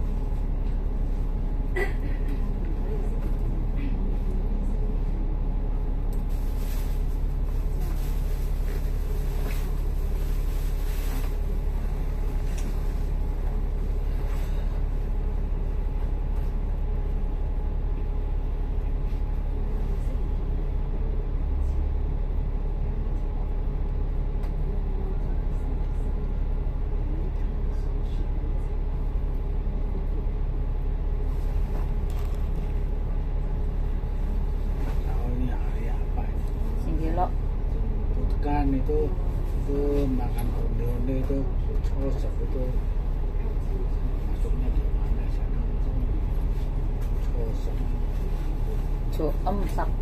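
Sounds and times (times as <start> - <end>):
bus engine rumble: 0.0 - 50.0.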